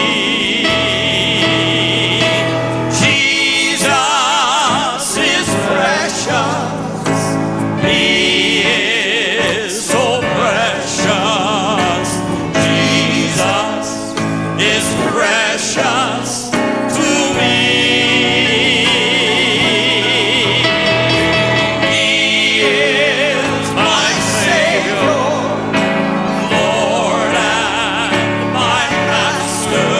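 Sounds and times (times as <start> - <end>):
gospel singing with vibrato: 0.0 - 29.9
instrumental accompaniment: 0.0 - 29.9.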